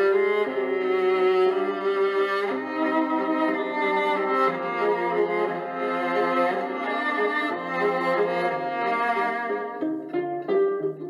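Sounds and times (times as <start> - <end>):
bowed strings melody: 0.0 - 11.0.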